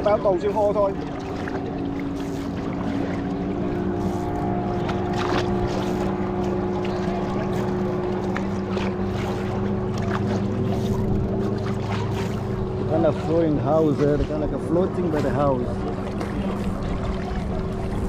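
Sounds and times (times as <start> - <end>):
small boat motor running: 0.0 - 18.0
water splashing against hull: 0.0 - 18.0.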